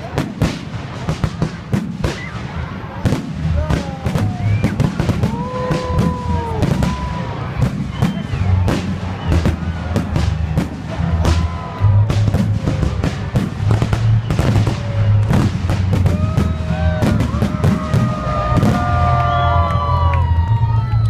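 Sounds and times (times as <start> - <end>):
fireworks bangs: 0.0 - 20.6
crowd shouting and cheering: 0.0 - 21.0.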